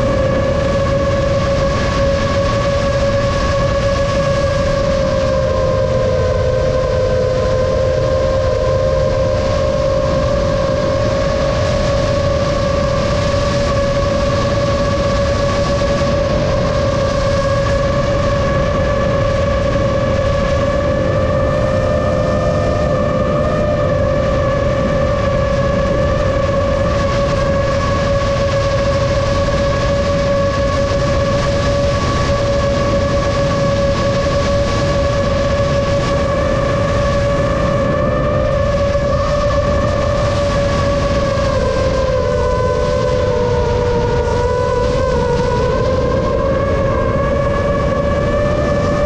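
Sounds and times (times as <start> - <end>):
drone propellers buzzing: 0.0 - 49.0.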